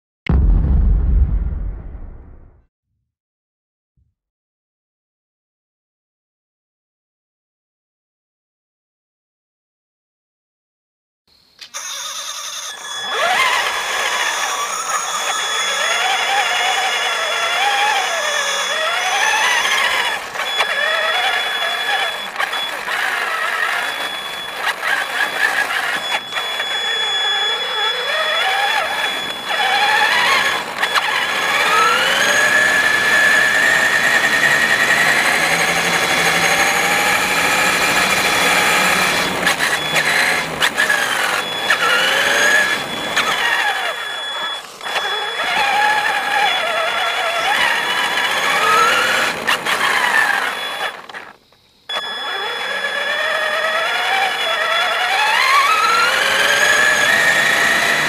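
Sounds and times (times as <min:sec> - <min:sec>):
rc truck motor whining: 0:11.5 - 0:58.0.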